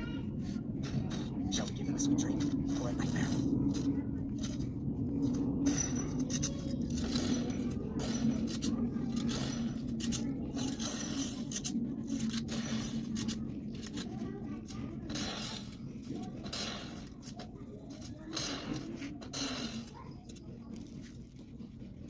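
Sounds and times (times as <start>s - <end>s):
drawing tool scratching paper: 0.0s - 22.0s
steady low hum: 0.0s - 22.0s.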